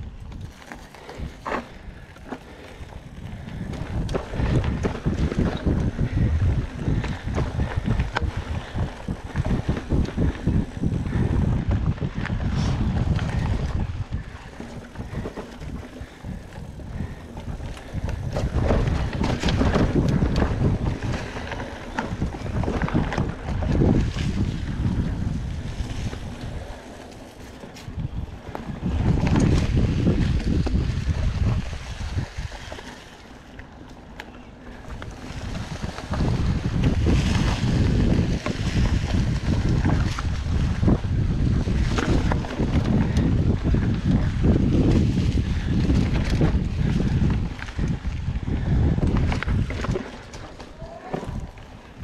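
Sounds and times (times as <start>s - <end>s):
bike clicks and rattles: 0.0s - 52.0s
wind buffeting microphone: 0.0s - 52.0s
tyres rumbling on dirt: 0.3s - 52.0s.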